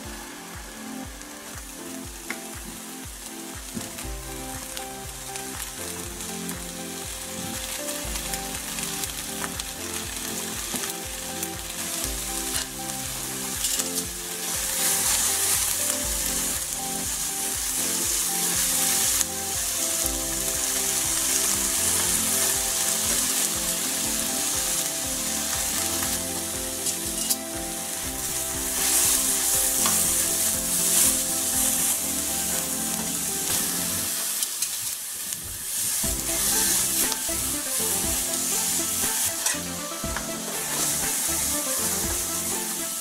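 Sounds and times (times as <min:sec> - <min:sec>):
meat sizzling in a frying pan: 0:00.4 - 0:43.0.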